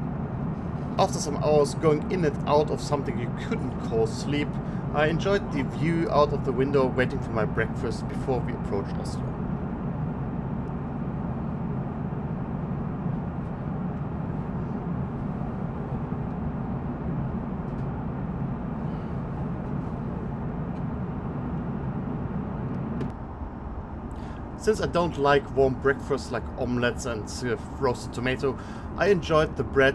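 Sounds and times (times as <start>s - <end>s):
airliner cabin engine noise: 0.0s - 29.9s.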